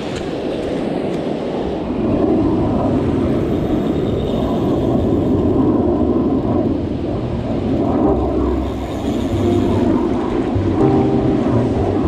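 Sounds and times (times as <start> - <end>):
ocean surf rumbling: 0.0 - 12.0.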